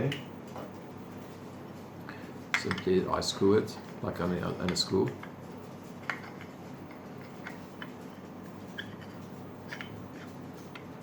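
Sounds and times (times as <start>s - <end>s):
low steady room hum: 0.0s - 11.0s.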